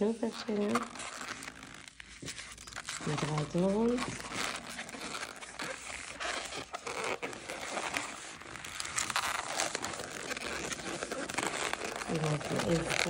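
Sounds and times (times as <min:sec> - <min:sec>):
rubber balloon creaking: 0:00.0 - 0:13.0.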